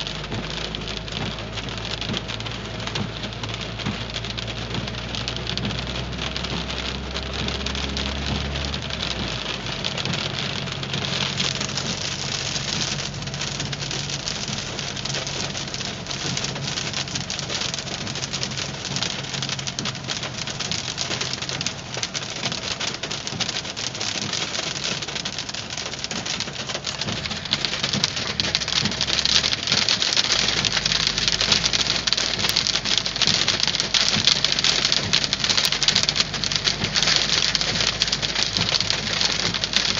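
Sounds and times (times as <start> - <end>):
hailstones pelting a car: 0.0 - 39.9.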